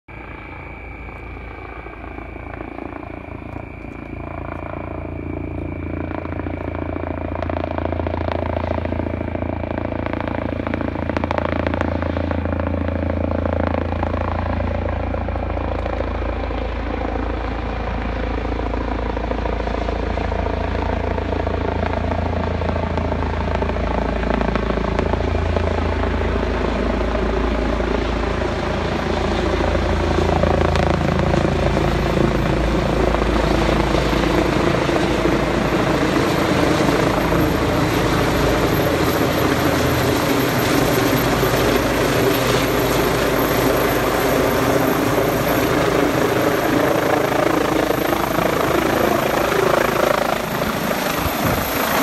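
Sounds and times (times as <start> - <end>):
helicopter rotor and turbine: 0.1 - 52.0.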